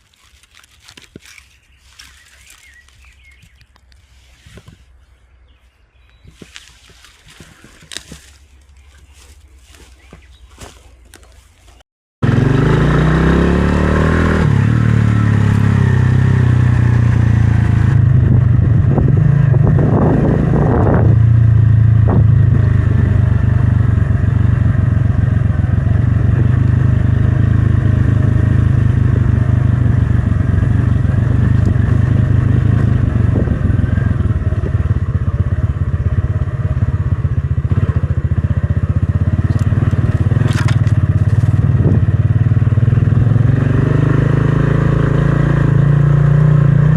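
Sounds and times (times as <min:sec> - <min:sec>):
motorcycle engine droning: 0:00.0 - 0:46.9.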